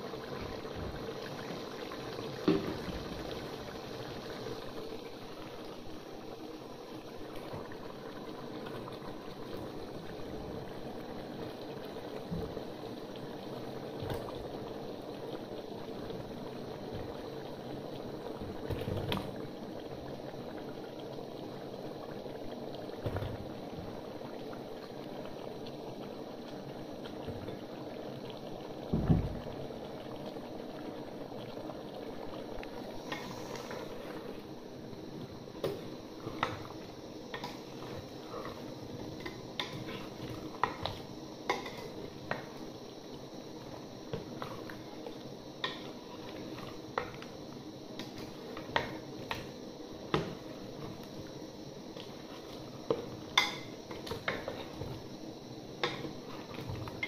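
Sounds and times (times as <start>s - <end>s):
pot bubbling simmer: 0.0s - 57.0s.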